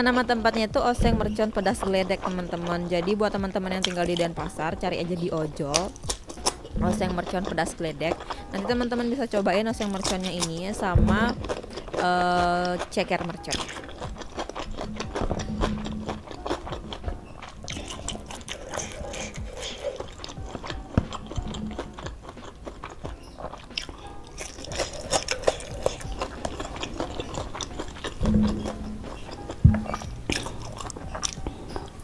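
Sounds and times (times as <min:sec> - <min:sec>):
chewing and lip-smacking: 0:00.0 - 0:32.0.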